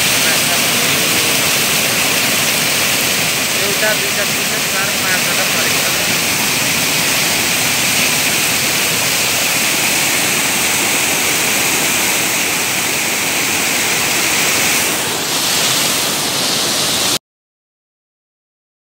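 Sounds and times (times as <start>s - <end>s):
stream rushing over rocks: 0.0s - 17.2s.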